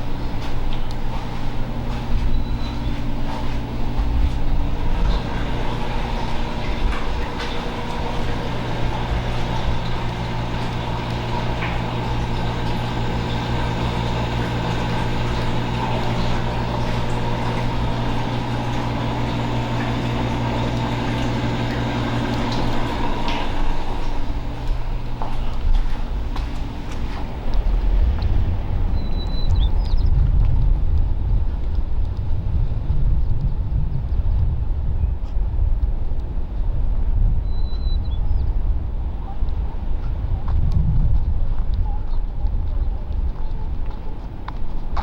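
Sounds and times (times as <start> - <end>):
steady mechanical hum: 0.0 - 45.0.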